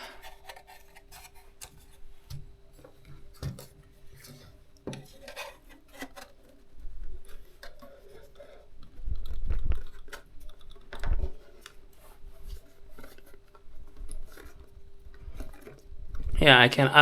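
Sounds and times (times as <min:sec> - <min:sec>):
plastic and metal rubbing: 0:00.0 - 0:17.0.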